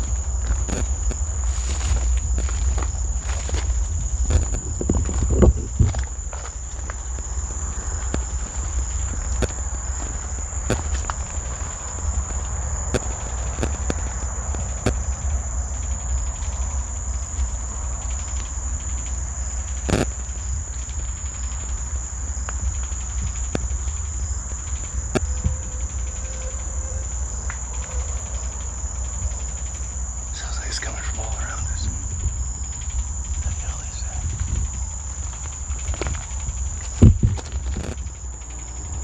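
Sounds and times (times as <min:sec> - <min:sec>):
high-pitched insect-like drone: 0:00.0 - 0:39.0.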